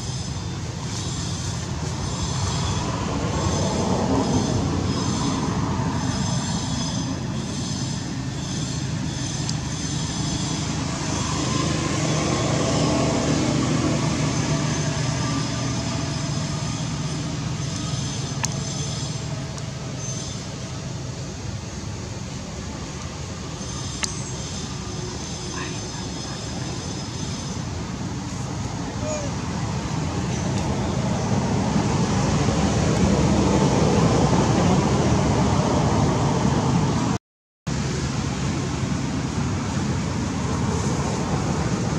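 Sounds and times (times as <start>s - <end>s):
low rumbling background noise: 0.0s - 41.9s.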